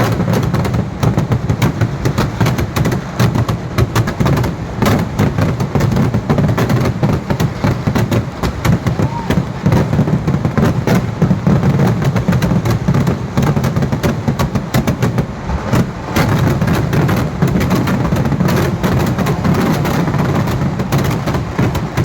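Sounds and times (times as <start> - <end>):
firecracker blasts: 0.0 - 22.0.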